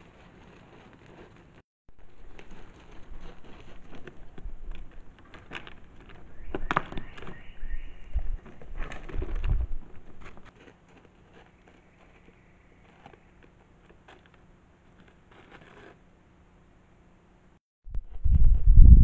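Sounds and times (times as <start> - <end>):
hooves clattering on loose stones: 0.0 - 15.9.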